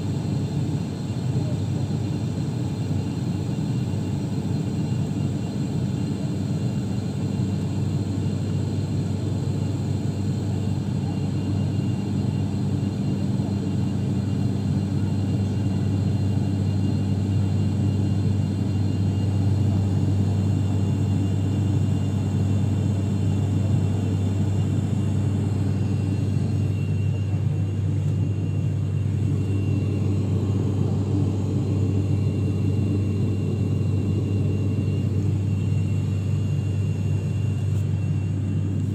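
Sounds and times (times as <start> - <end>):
propeller plane cabin drone: 0.0 - 38.9.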